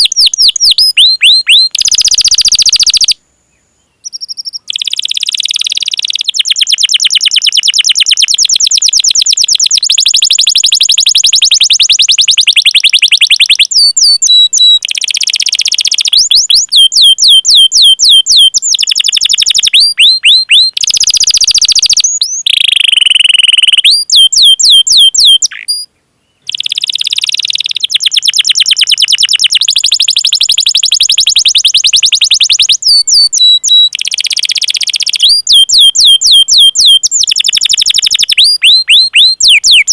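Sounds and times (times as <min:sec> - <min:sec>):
canary singing trills: 0:00.0 - 0:03.2, 0:03.9 - 0:39.9.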